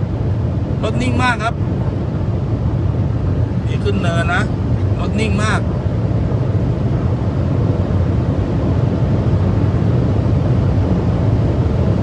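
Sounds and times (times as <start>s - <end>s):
car cabin engine and road drone: 0.0s - 12.0s.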